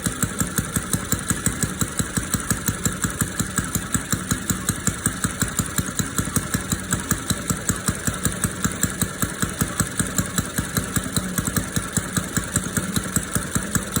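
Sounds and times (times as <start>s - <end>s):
model engine idling: 0.0s - 14.0s.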